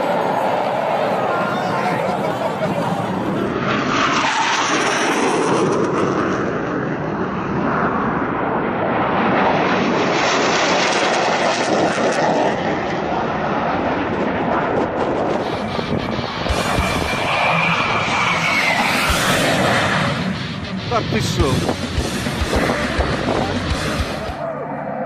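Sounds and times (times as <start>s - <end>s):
jet aircraft passing: 0.0s - 25.0s.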